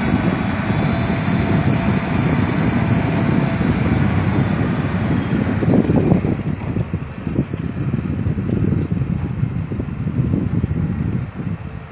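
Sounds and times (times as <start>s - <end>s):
high whine: 0.0s - 11.6s
heavy diesel engine rumbling: 0.0s - 11.9s.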